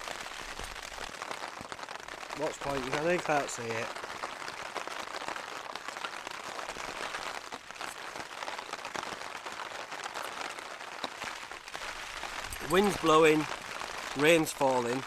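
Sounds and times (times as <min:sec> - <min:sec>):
rain pattering on tent fabric: 0:00.0 - 0:15.0.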